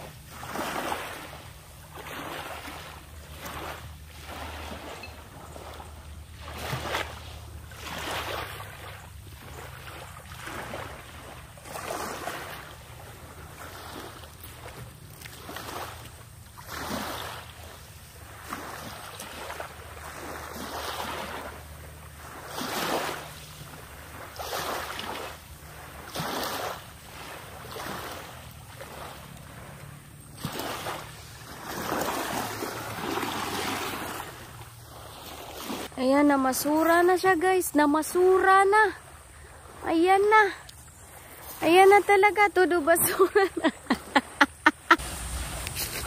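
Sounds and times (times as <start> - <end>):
small waves washing onto shore: 0.0 - 46.0.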